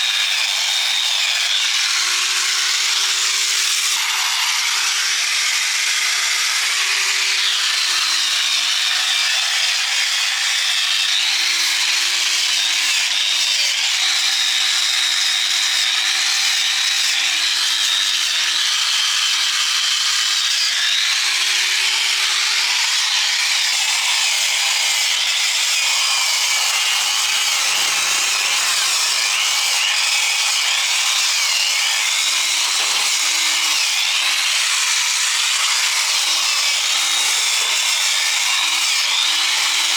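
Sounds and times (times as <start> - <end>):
power tool grinding metal: 0.0 - 39.9.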